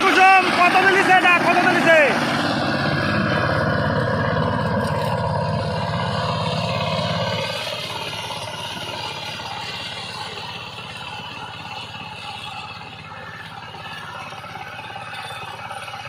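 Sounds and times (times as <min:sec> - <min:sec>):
diesel tiller engine chugging: 0:00.0 - 0:16.0.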